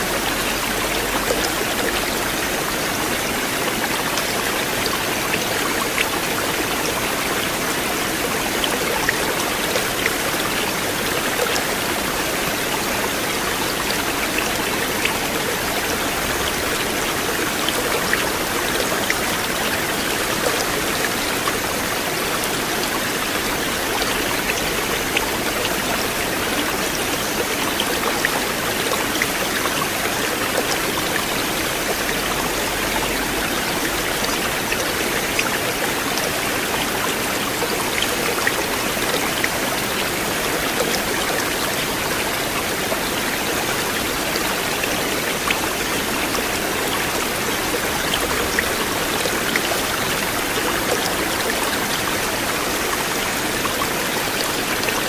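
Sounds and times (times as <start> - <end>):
river water flowing: 0.0 - 55.0
water splashes and drips: 0.0 - 55.0.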